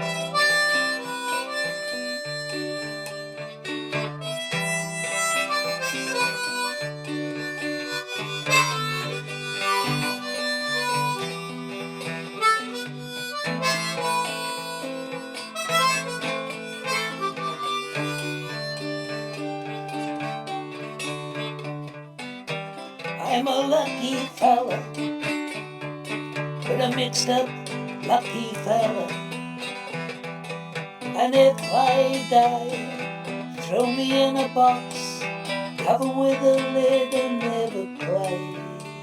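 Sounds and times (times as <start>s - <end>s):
harmonica melody: 0.0s - 39.0s
strummed acoustic guitar: 0.0s - 39.0s.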